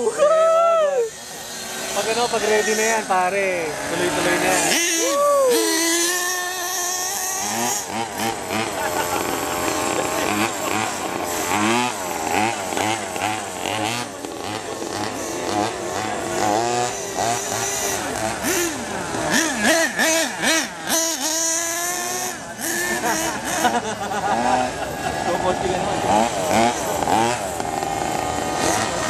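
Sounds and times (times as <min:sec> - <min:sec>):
small two-stroke engines revving: 0:00.0 - 0:29.0.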